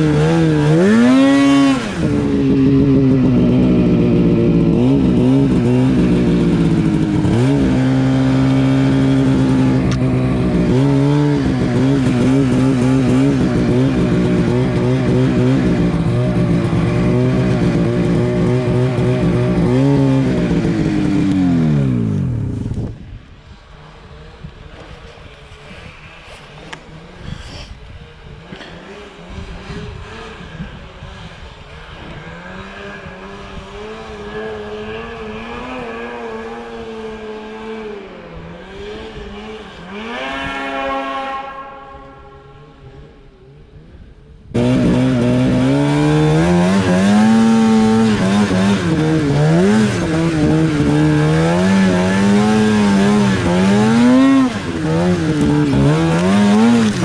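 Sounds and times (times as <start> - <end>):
close two-stroke engine revving: 0.0 - 22.8, 26.5 - 41.4, 44.5 - 57.0
distant snowmobile engine revving: 0.0 - 22.9, 23.5 - 57.0.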